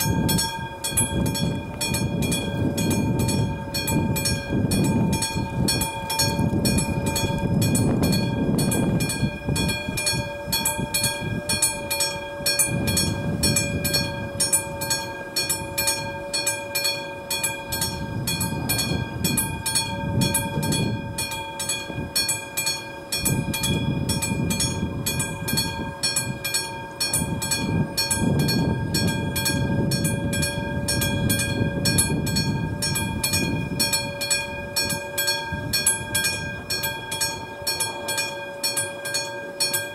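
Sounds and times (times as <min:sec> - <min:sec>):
wind buffeting microphone: 0:00.0 - 0:14.9, 0:17.6 - 0:22.2, 0:23.2 - 0:26.5, 0:27.1 - 0:37.7
level crossing warning bell: 0:00.0 - 0:39.9.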